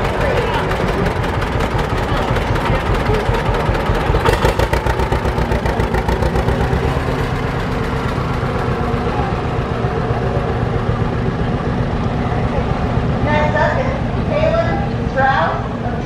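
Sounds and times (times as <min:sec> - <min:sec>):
tractor engine putt-putt: 0:00.0 - 0:13.2.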